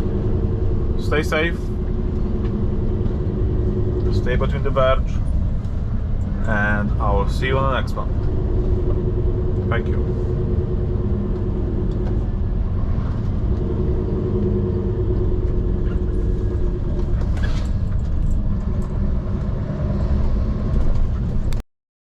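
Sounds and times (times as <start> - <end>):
diesel engine rumbling: 0.0 - 21.6.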